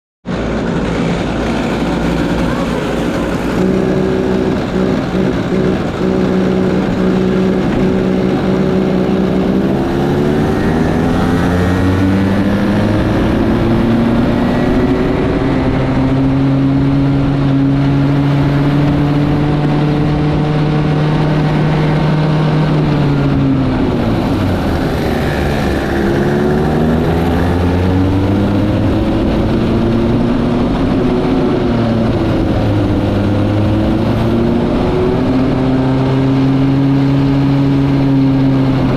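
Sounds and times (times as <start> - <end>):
go-kart engine running hard: 0.2 - 38.9.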